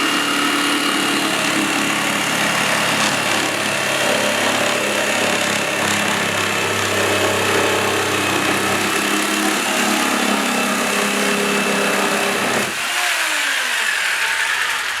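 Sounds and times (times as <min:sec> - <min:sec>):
jigsaw motor running: 0:00.0 - 0:15.0.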